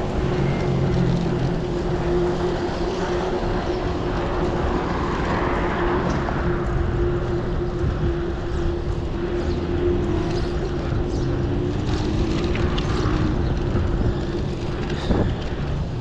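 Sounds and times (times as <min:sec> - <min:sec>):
vehicle riding rumble: 0:00.0 - 0:16.0.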